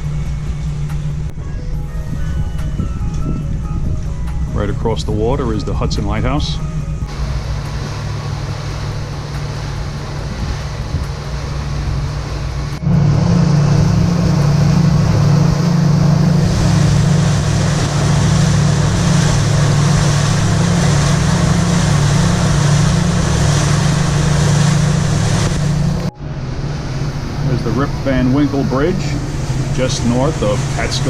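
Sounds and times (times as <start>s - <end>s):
boat engine humming: 0.0s - 31.0s
wind: 0.0s - 31.0s
water rushing: 2.4s - 31.0s.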